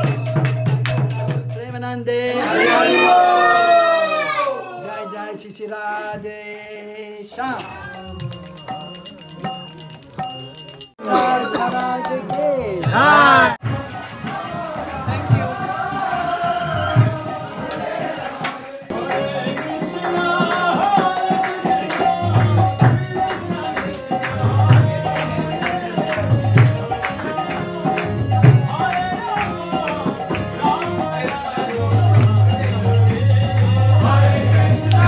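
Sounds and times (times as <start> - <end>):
jingling hand percussion: 0.0 - 5.2, 7.4 - 35.0
devotional song singing: 0.0 - 35.0.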